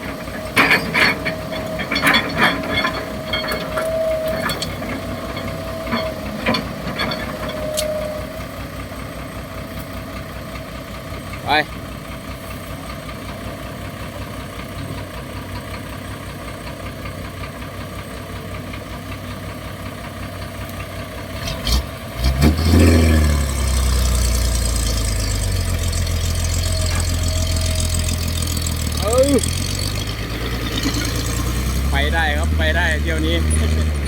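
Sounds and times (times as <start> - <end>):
diesel truck engine: 0.0 - 34.0.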